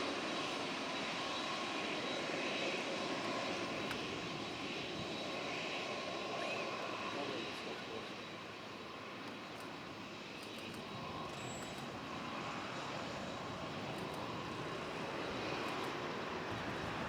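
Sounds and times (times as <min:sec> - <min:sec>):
jet engines on approach: 0:00.0 - 0:17.0.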